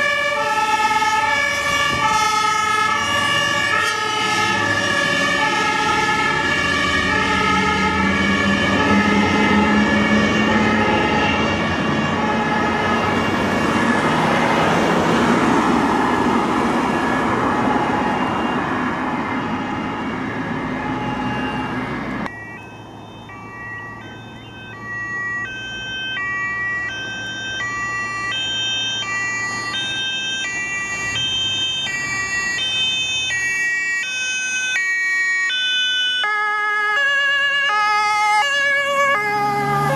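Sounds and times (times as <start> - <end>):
truck engine and road noise: 0.0 - 39.9
two-tone fire engine sirens: 0.0 - 39.9.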